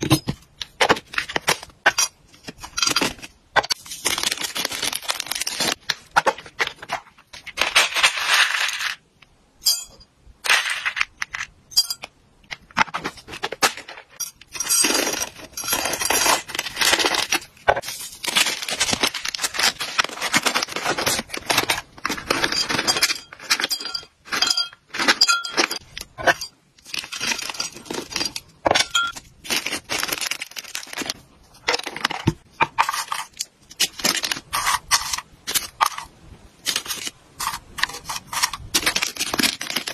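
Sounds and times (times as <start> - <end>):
treats rattling in plastic containers: 0.8 - 9.0, 12.6 - 39.9.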